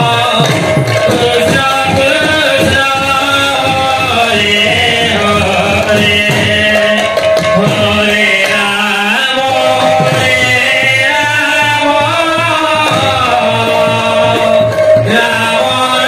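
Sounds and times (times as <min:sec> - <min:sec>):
barrel drum: 0:00.0 - 0:16.0
man singing into a microphone: 0:00.0 - 0:16.0.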